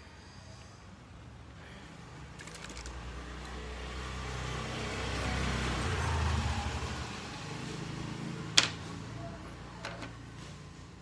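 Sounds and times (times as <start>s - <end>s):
vehicle engine passing: 2.0s - 11.0s.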